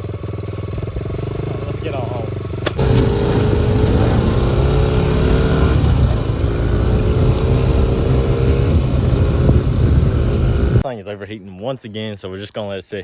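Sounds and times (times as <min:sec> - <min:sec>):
off-road vehicle engine rumbling: 0:00.0 - 0:10.8.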